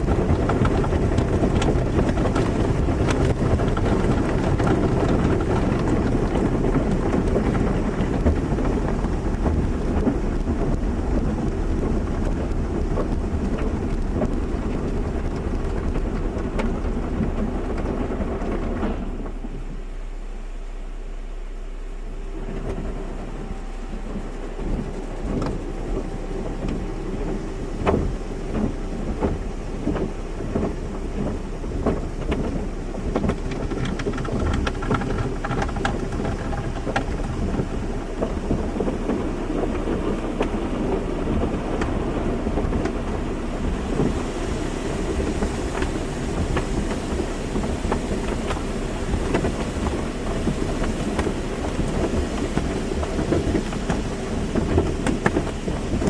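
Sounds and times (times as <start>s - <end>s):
water spray drumming on car: 0.0s - 56.0s.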